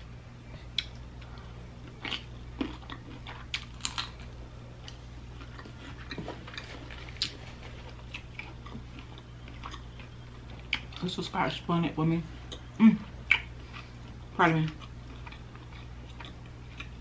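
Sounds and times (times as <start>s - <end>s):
low steady hum: 0.0s - 17.0s
wet chewing and smacking: 0.7s - 11.2s, 12.4s - 17.0s.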